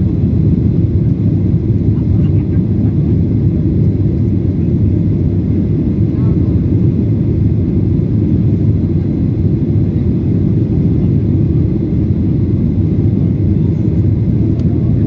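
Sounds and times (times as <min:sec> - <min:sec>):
airplane cabin rumble in flight: 0:00.0 - 0:15.0.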